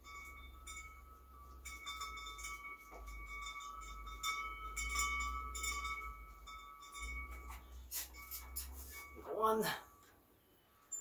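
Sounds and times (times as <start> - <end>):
wind chimes ringing: 0.0 - 10.2, 10.8 - 11.0.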